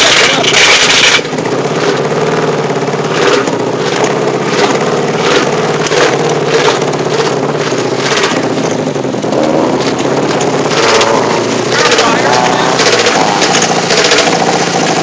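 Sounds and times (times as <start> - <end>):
car cabin hum: 1.3 - 15.0.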